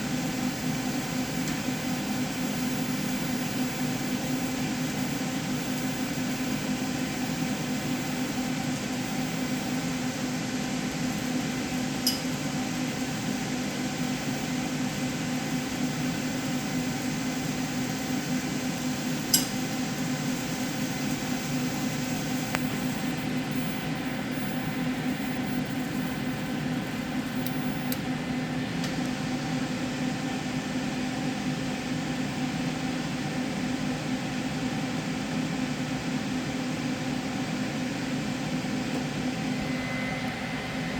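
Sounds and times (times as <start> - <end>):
machine hum with hiss: 0.0 - 40.9.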